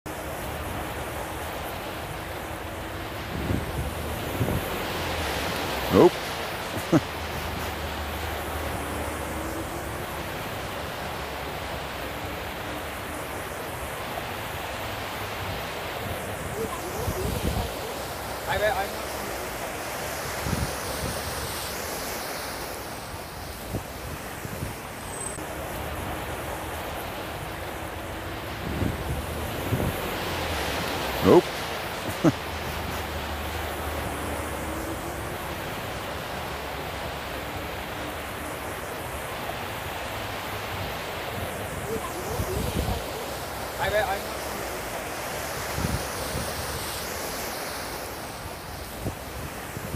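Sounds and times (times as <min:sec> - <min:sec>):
tyres swishing through water: 0:00.1 - 0:49.9.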